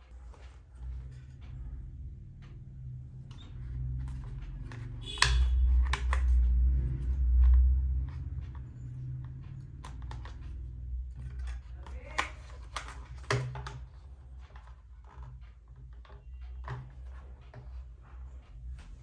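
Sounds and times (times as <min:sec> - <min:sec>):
handling clicks and knocks: 0:02.4 - 0:18.2.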